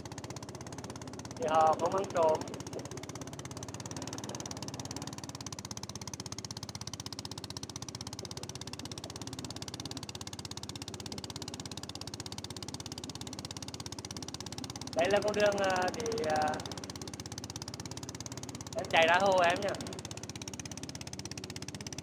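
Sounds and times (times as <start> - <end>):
boat engine chugging: 0.0 - 22.0.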